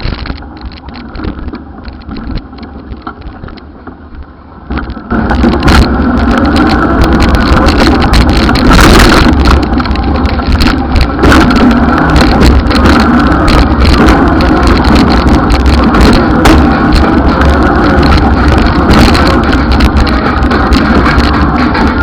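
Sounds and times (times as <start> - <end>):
road rumble: 0.0 - 22.0
wind buffeting microphone: 0.0 - 22.0.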